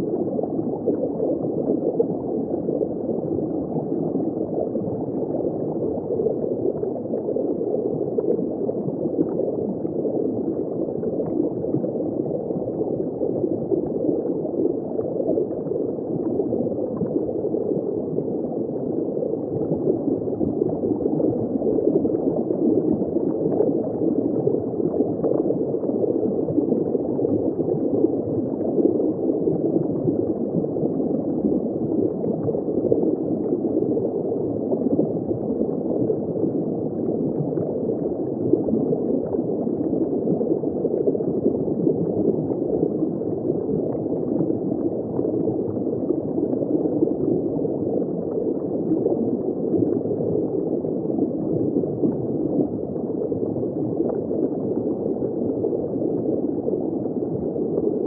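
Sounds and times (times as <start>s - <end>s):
muffled underwater bubbling: 0.0s - 58.0s.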